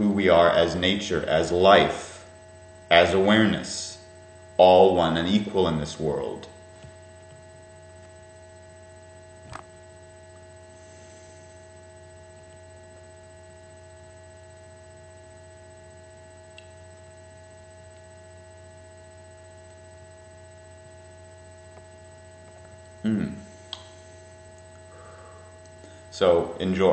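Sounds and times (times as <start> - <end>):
electrical hum: 0.0 - 26.9.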